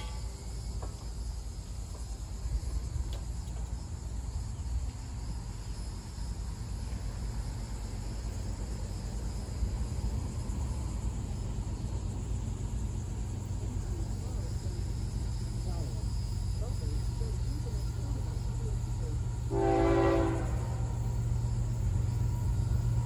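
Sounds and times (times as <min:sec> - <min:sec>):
insects chirring: 0:00.0 - 0:23.0
low uneven rumble: 0:00.0 - 0:23.0.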